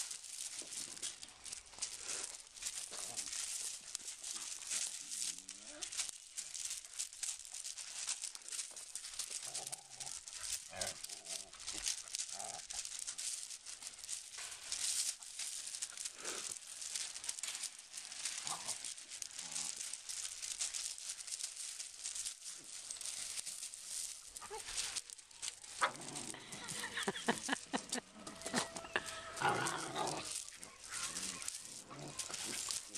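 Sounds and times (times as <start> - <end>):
gravel crunching: 0.0 - 32.9
puppy noises: 0.3 - 32.9.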